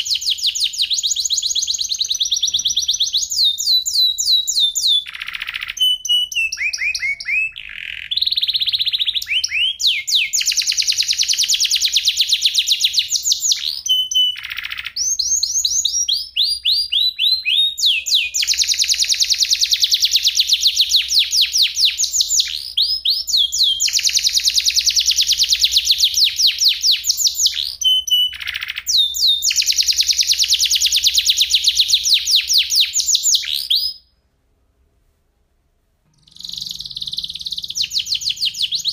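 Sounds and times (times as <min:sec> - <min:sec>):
canary singing: 0:00.0 - 0:34.1, 0:36.1 - 0:38.9.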